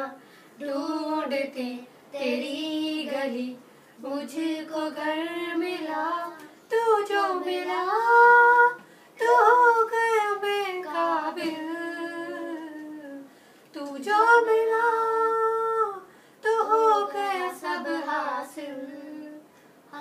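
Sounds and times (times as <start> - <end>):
woman singing: 0.0 - 19.5
boy singing: 0.0 - 20.0.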